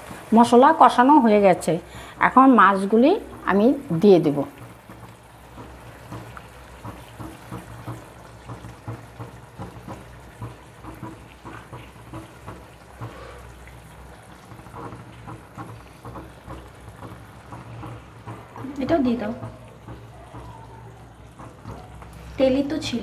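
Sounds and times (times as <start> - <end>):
gravy bubbling and spluttering: 0.0 - 23.0.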